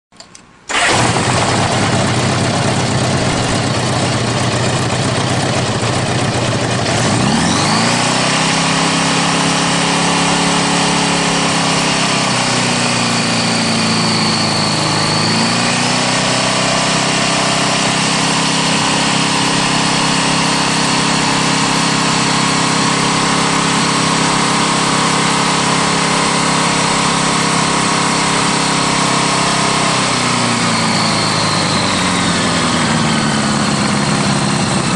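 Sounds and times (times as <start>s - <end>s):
motorcycle engine running: 0.7s - 34.9s.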